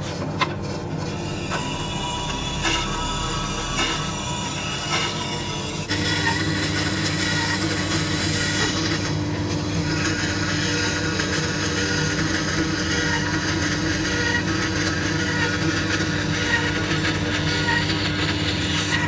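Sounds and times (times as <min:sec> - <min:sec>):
electric power tool running: 0:01.1 - 0:19.0.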